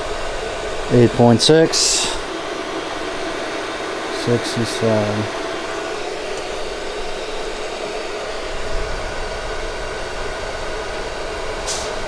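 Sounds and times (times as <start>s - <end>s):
faint steady whine: 0.0s - 12.0s
heater blower fan rushing: 0.0s - 12.0s.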